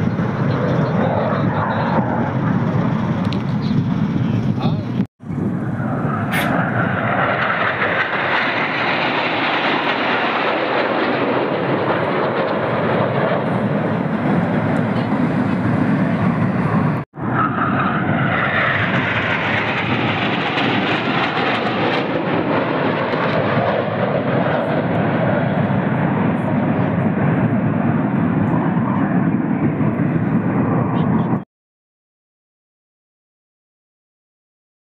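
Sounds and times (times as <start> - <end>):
jet engines flying past: 0.0 - 31.4.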